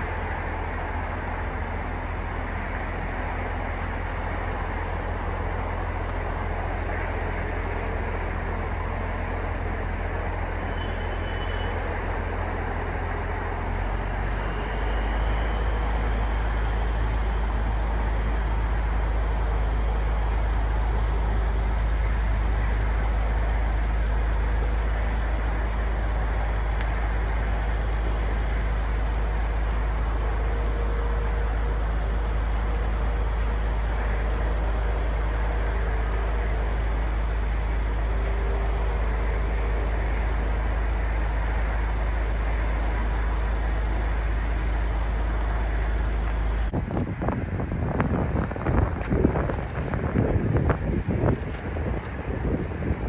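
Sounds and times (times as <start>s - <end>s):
crane engine rumbling: 0.0s - 53.0s.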